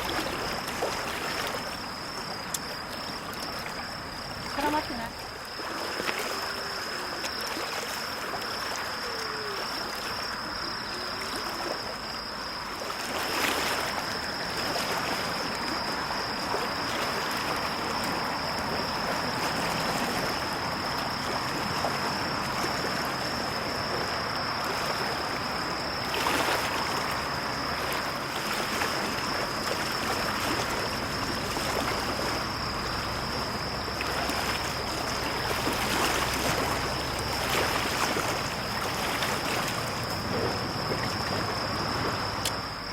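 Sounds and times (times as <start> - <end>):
waves lapping at shore: 0.0 - 42.9.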